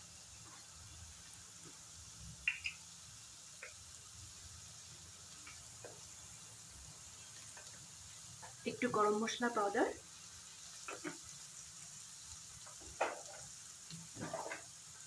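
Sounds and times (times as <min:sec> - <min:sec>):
onions frying with faint sizzle: 0:00.0 - 0:15.0.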